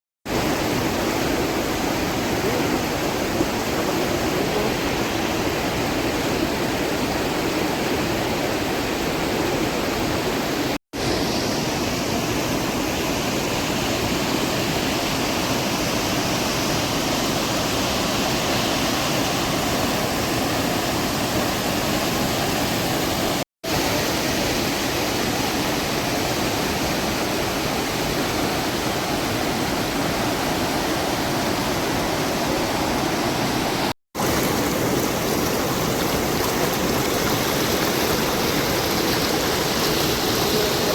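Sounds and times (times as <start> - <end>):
river water rushing: 0.3 - 40.9.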